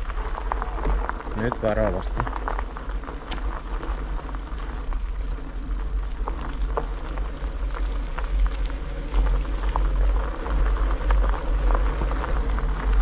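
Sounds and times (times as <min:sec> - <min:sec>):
gravel clicking under tyres: 0:00.0 - 0:13.0
wind and road rumble: 0:00.0 - 0:13.0.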